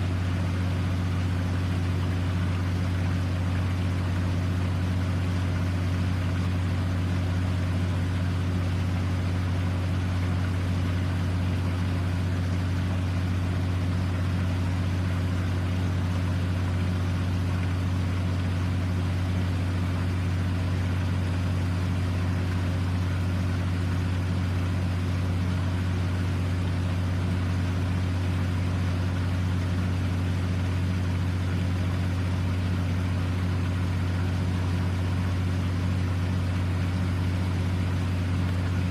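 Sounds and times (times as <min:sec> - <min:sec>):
low mechanical drone: 0:00.0 - 0:38.9.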